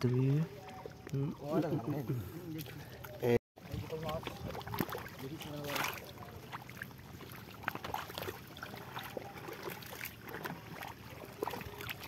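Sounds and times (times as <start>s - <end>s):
small water splashes: 0.0s - 12.0s
squelching in wet mud: 0.0s - 12.0s.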